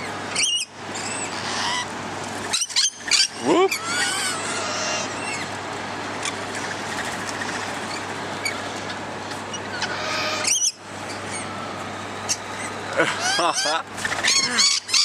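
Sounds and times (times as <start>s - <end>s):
lorikeets chattering and screeching: 0.0s - 5.6s, 6.2s - 15.0s.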